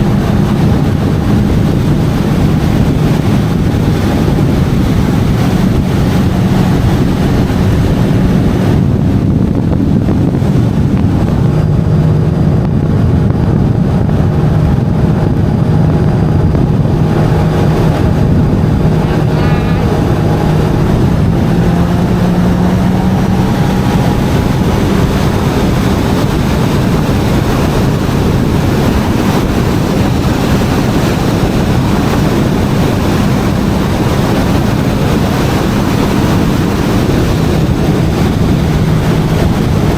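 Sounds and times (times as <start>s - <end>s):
jet ski engine running: 0.0s - 39.9s
wind buffeting microphone: 0.0s - 39.9s.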